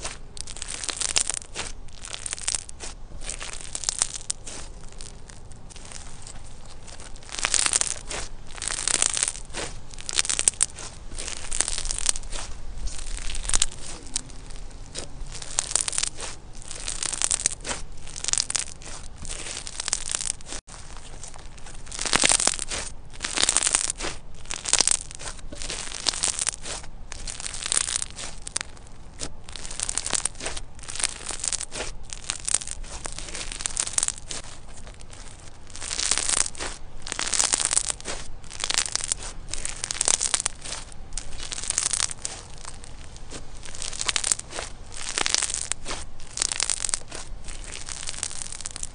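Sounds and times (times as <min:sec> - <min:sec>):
slime crackling when squeezed: 0:00.0 - 0:48.9.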